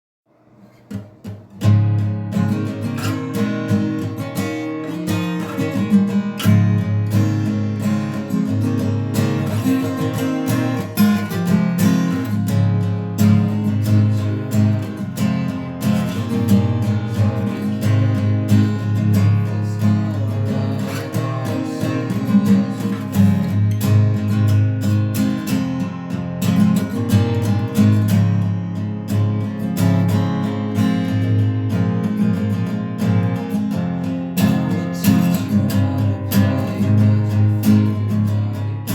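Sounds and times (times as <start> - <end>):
acoustic guitar strumming chords: 0.3 - 38.9.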